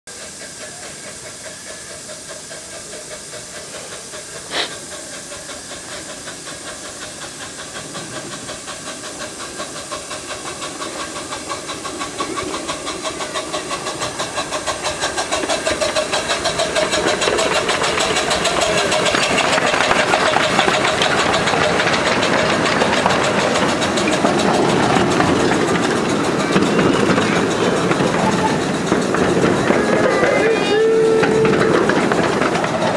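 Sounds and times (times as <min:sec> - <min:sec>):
steam locomotive chuffing: 0:00.1 - 0:32.9.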